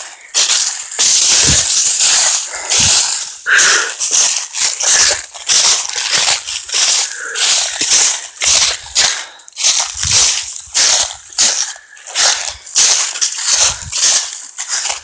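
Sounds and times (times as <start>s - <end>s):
footsteps crunching through leaves: 0.0s - 15.0s.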